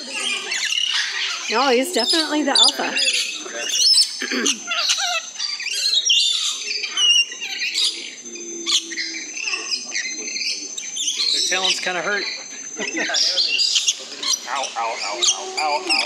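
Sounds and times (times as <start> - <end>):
high-pitched whine: 0.0 - 16.0
parrots chattering and squawking: 0.0 - 16.0.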